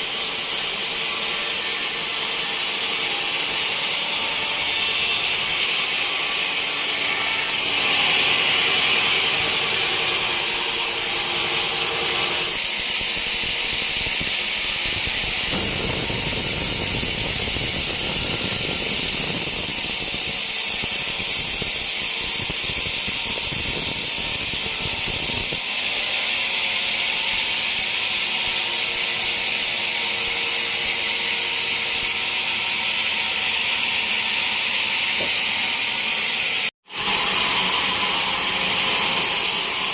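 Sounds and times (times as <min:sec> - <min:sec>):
band sawmill sawing log: 0:00.0 - 0:39.9.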